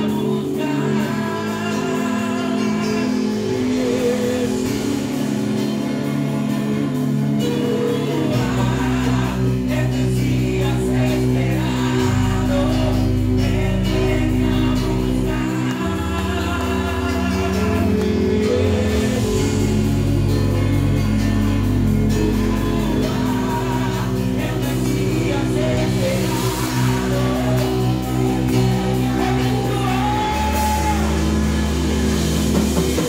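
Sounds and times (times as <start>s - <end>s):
man and women singing: 0.0s - 5.1s, 7.4s - 19.8s, 22.3s - 33.0s
band with drum kit: 0.0s - 33.0s.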